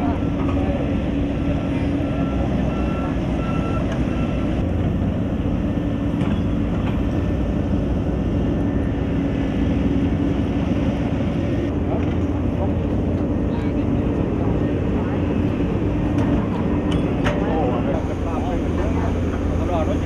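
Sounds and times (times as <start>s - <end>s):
construction machinery engine drone: 0.0s - 20.0s.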